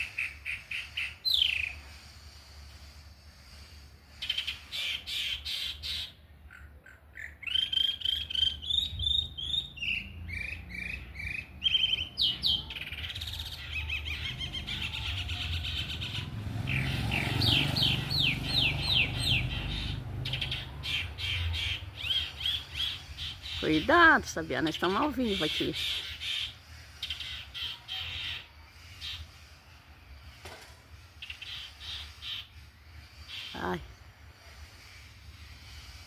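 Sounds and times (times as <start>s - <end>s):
thrushes chirping and whistling: 0.0s - 36.0s.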